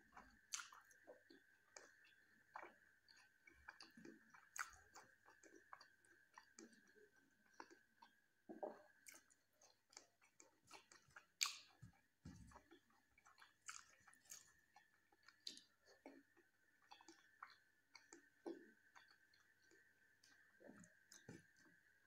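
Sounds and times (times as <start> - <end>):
close chewing: 0.0 - 21.8
wet mouth clicks and smacks: 0.2 - 6.9, 7.5 - 11.8, 13.3 - 16.2, 16.9 - 21.7.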